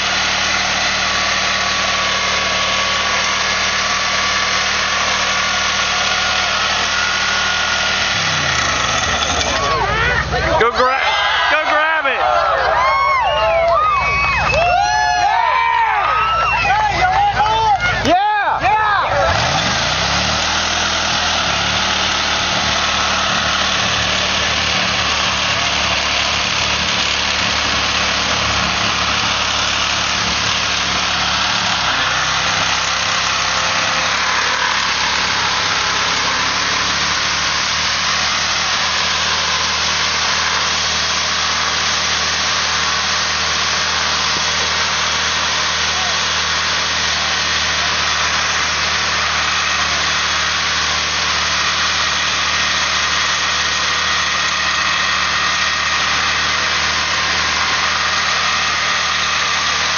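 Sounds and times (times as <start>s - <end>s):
car engine at steady revs: 0.0s - 12.2s, 16.6s - 59.9s
spinning tyres hissing: 0.0s - 59.9s.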